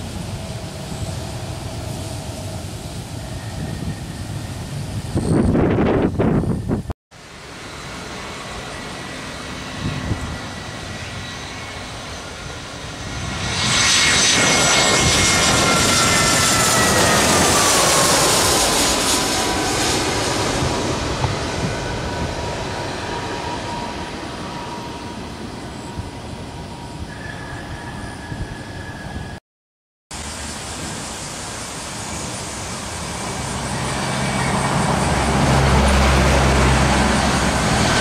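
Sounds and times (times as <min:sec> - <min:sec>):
jet airliner passing overhead: 0:00.0 - 0:29.4, 0:30.1 - 0:38.0
jet engine whine: 0:00.0 - 0:29.4, 0:30.1 - 0:38.0.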